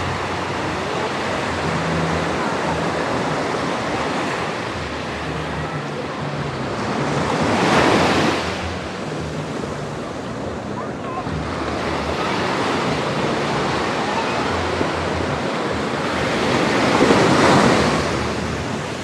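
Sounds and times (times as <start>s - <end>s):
small waves washing on sand: 0.0s - 19.0s.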